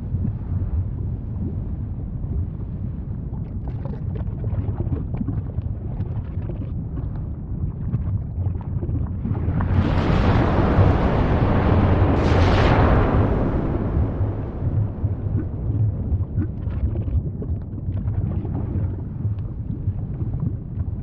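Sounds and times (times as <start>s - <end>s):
volcano rumbling: 0.0s - 21.0s.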